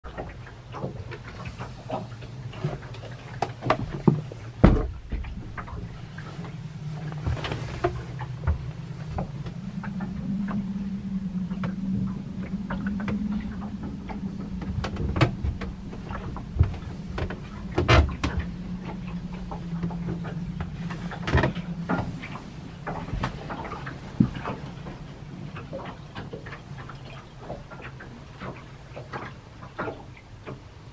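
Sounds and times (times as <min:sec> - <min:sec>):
steady low hum: 0:00.1 - 0:30.9.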